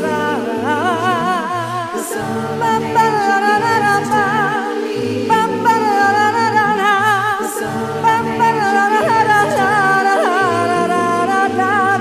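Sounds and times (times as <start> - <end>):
women singing in harmony: 0.0 - 12.0.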